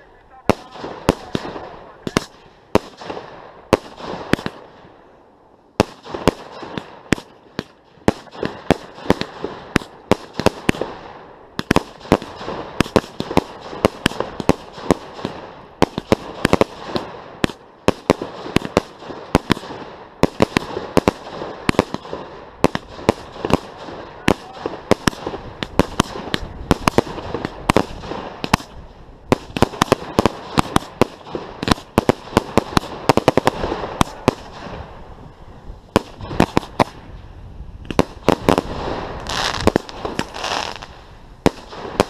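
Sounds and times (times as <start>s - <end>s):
fireworks bangs and cracks: 0.4s - 5.0s, 5.7s - 35.2s, 35.9s - 37.2s, 37.8s - 42.0s.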